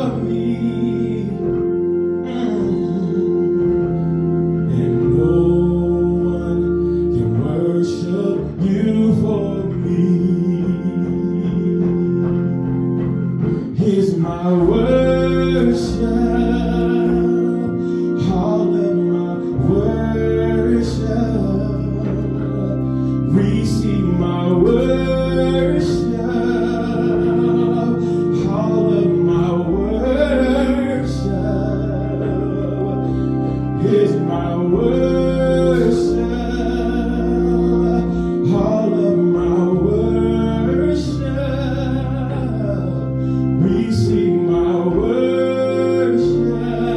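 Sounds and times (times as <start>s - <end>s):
instrumental backing: 0.0s - 46.9s
person singing gospel song: 0.0s - 46.9s.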